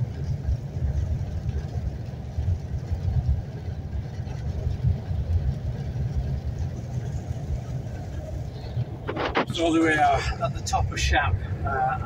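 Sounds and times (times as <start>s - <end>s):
truck tyre and wind rumble: 0.0s - 12.0s.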